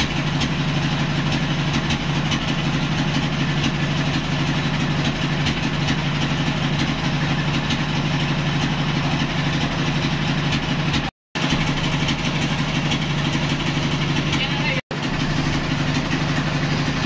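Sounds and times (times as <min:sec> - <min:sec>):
sawmill engine idling: 0:00.0 - 0:17.0.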